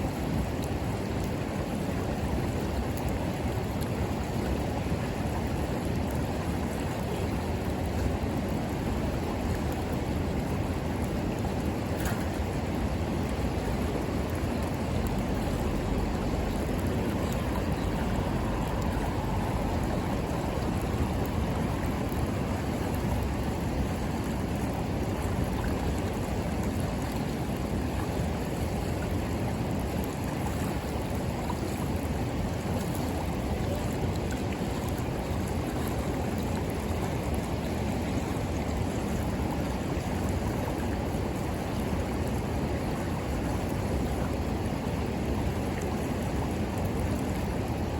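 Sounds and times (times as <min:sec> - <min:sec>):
river water flowing: 0:00.0 - 0:47.9.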